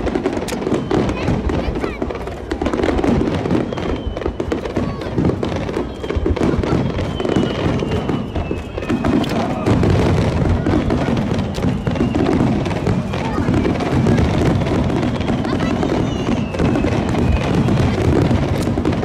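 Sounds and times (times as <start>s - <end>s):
crowd voices: 0.0s - 19.0s
fireworks bursting and crackling: 0.0s - 19.0s.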